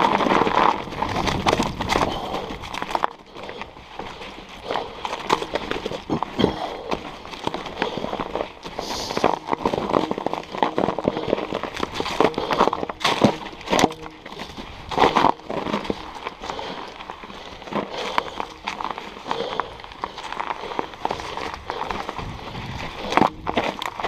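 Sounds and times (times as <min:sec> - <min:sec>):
bike rattling over rocks: 0:00.0 - 0:24.0.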